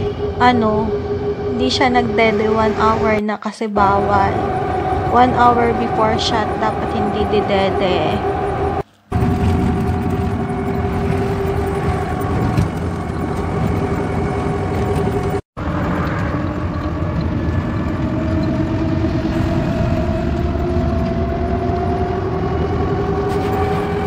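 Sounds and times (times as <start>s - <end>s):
road and wind rumble: 4.0s - 24.0s.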